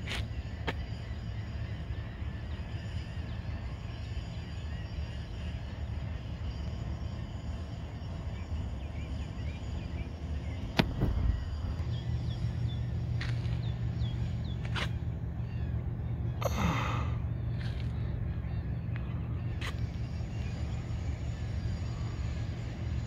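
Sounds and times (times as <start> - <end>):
low outdoor rumble: 0.0 - 23.0
faint bird chirps: 0.2 - 23.0.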